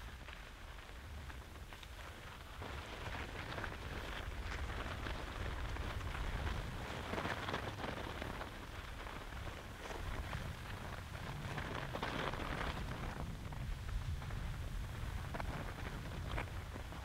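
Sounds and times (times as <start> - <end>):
skis scraping on snow: 0.0 - 17.0
wind rumble on microphone: 0.0 - 17.0.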